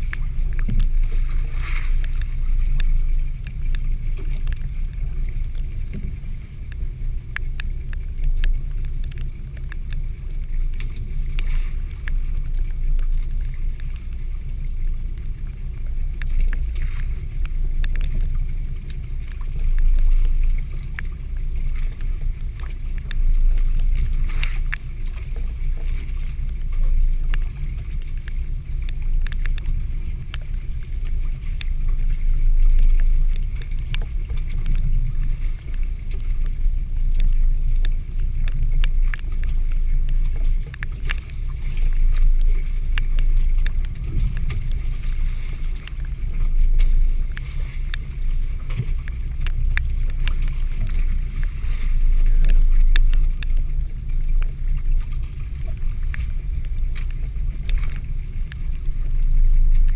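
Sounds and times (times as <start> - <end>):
low rumble of wind and sea: 0.0 - 59.9.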